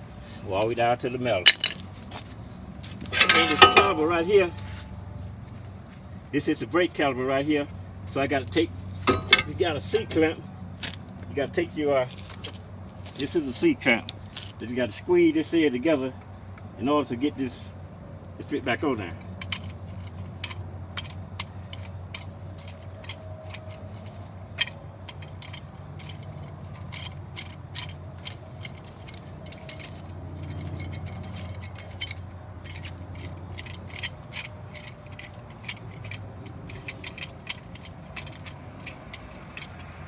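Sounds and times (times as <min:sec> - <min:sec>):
steady low hum: 0:00.0 - 0:40.0
metal tools clinking and scraping: 0:00.4 - 0:05.8, 0:06.4 - 0:40.0.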